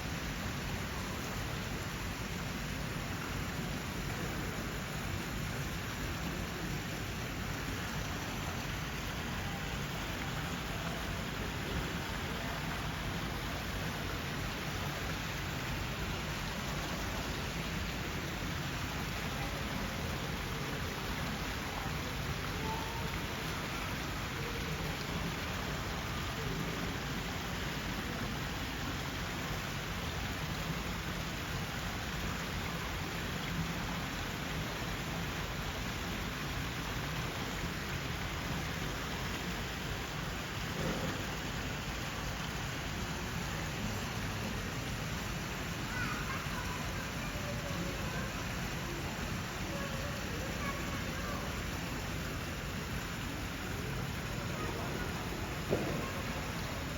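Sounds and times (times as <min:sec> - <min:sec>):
falling water rushing: 0:00.0 - 0:56.9.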